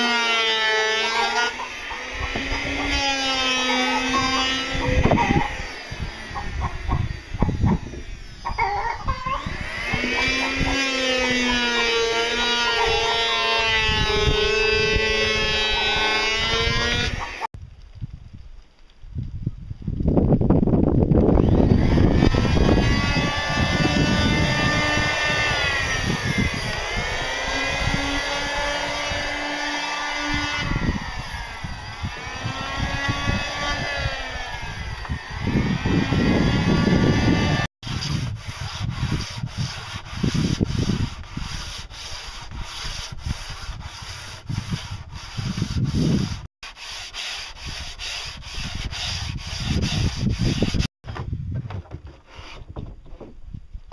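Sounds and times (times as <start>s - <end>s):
power tool on wood: 0.0s - 17.5s, 21.3s - 50.9s
sandpaper rubbing wood by hand: 0.0s - 17.5s, 21.8s - 34.7s, 35.4s - 50.9s, 52.2s - 52.7s.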